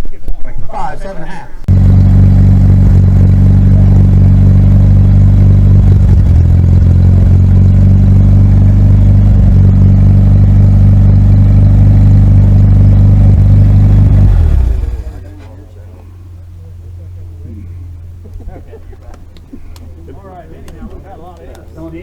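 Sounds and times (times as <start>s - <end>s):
vehicle engine running: 1.7s - 22.0s.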